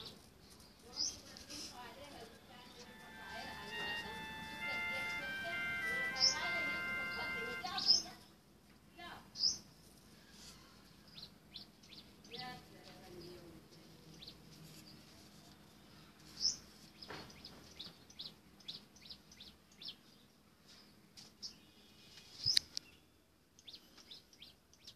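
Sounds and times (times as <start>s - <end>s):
small birds chirping: 0.0s - 8.4s, 9.3s - 24.9s.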